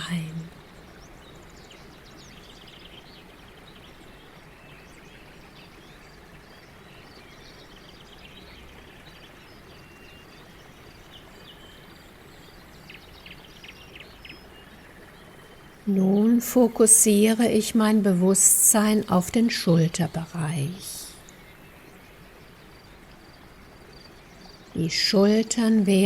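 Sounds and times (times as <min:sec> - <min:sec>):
birds twittering: 0:00.0 - 0:26.0
faint steady hiss: 0:00.0 - 0:26.0.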